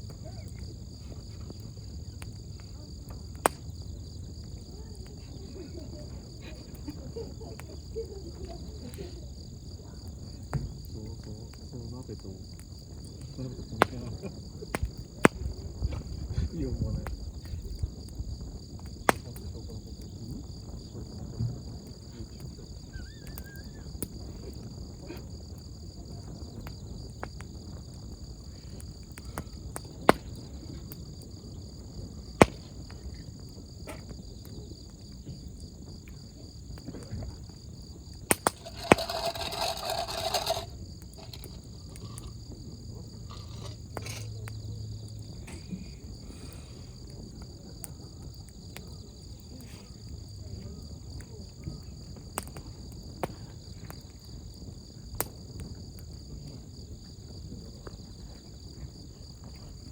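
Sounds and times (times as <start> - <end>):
campfire crackling and popping: 0.0 - 45.6, 51.1 - 59.9
crickets chirring: 0.0 - 59.9.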